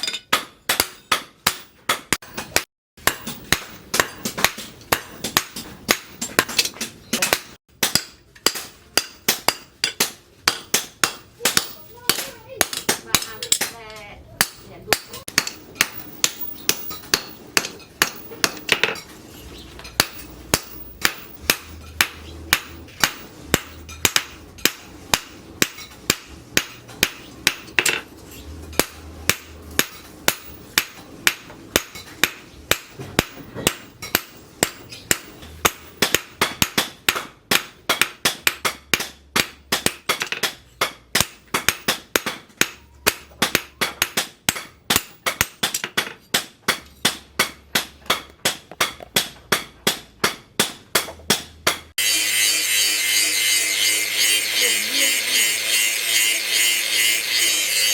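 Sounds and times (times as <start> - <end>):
hammer striking steel on anvil: 0.0 - 13.8, 14.4 - 19.1, 19.8 - 28.1, 28.7 - 57.9.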